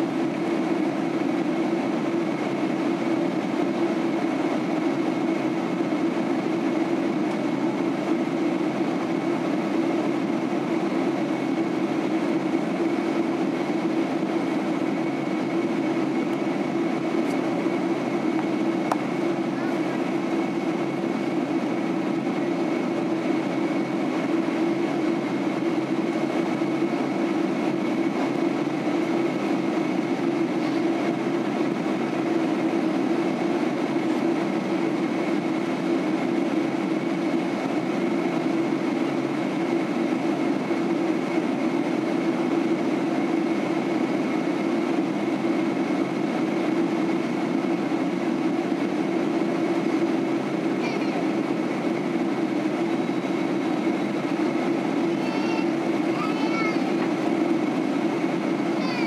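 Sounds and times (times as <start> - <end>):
airliner cabin engine drone: 0.0 - 59.0.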